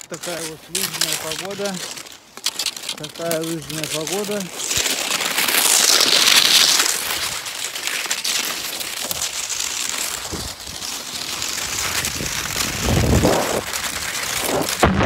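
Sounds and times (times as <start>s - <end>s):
skis sliding over wet snow: 0.0s - 15.0s.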